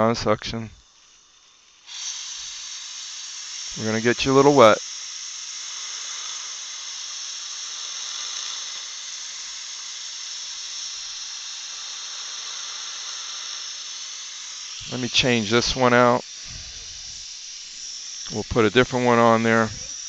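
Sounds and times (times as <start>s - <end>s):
dental suction hissing: 0.8s - 20.0s.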